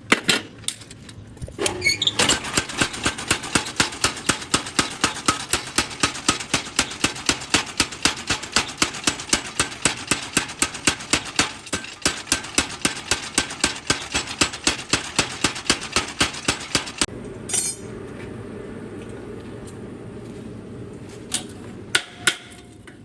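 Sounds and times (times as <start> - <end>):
low machine hum: 1.0 - 23.0.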